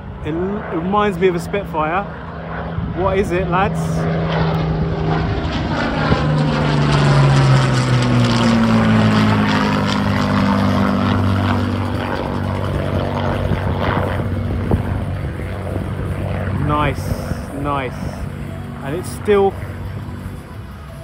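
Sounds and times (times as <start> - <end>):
propeller plane flying past: 0.0 - 21.0.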